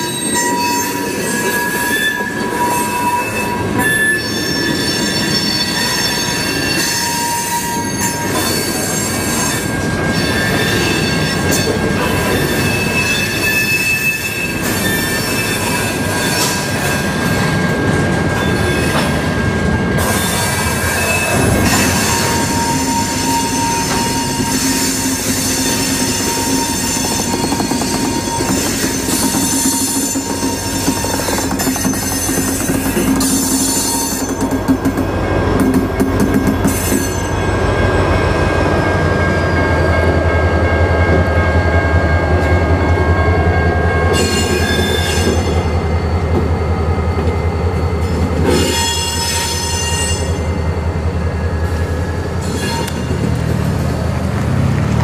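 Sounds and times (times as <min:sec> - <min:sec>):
train wheels squealing on rails: 0:00.0 - 0:54.9
rumble of rolling train cars: 0:00.0 - 0:55.0.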